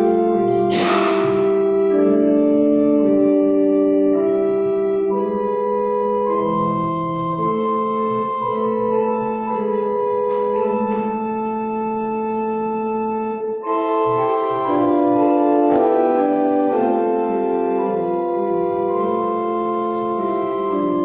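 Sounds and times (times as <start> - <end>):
organ playing slow chords: 0.0 - 21.0.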